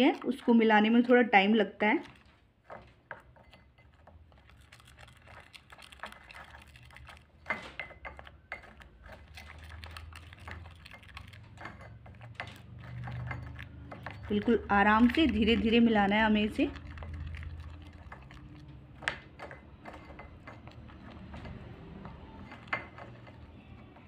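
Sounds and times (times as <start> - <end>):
spoon scraping sticky paste: 0.0 - 24.0.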